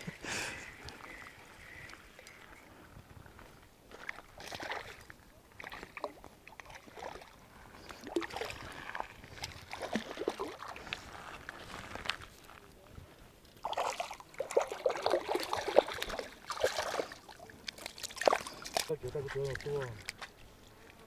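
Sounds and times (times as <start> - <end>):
water splashing and sloshing: 0.0 - 12.5, 13.4 - 20.8.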